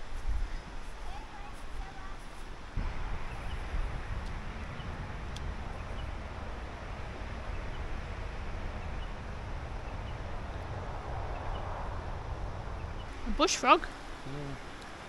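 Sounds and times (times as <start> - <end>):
outdoor hiss: 0.0 - 15.0
wind buffeting microphone: 0.0 - 15.0.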